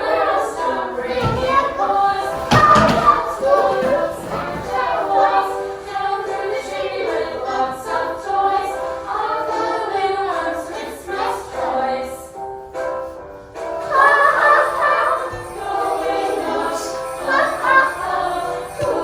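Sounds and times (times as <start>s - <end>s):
children singing: 0.0s - 19.0s
musical backing: 0.0s - 19.0s.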